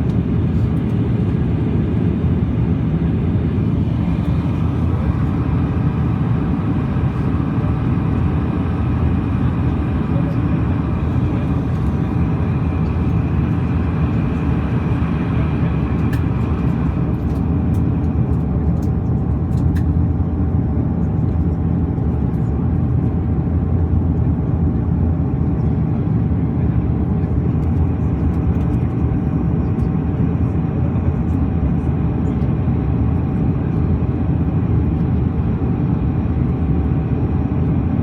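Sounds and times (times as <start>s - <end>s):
airplane cabin drone: 0.0s - 38.0s.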